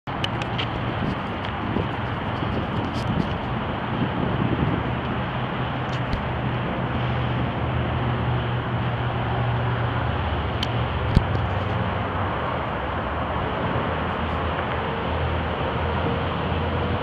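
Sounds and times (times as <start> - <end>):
outdoor background noise: 0.1 - 17.0.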